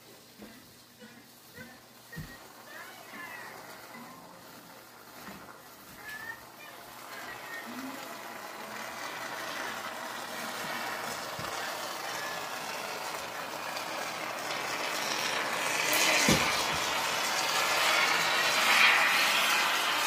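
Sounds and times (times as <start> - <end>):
spray foam can hissing: 1.4 - 20.0.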